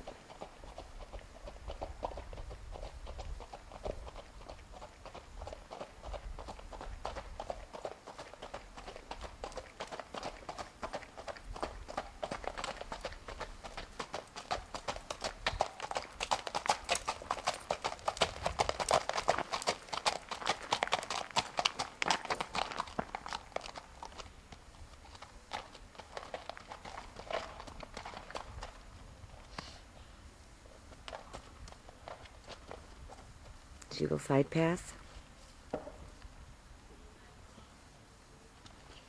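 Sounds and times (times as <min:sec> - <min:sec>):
hoofbeats on gravel: 0:00.0 - 0:29.8, 0:30.8 - 0:33.6.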